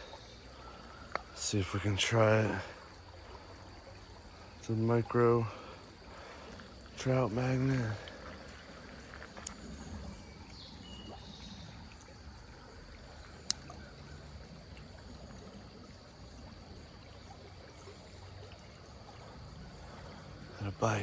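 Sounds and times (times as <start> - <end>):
creek running: 0.0 - 21.0.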